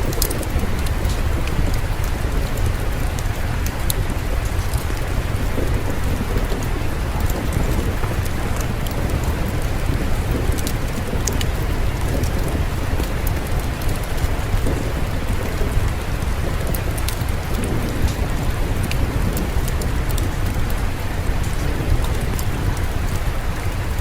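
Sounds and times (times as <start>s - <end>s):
continuous low rumble: 0.0s - 24.0s
fire crackling: 0.0s - 24.0s
steady rain falling: 0.0s - 24.0s.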